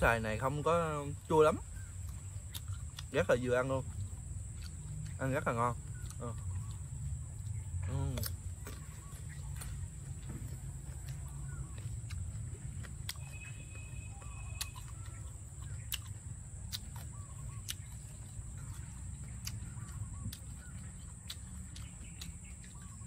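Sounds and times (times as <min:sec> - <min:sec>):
birds calling: 0:00.0 - 0:23.0
person chewing crisp mango: 0:00.0 - 0:23.0.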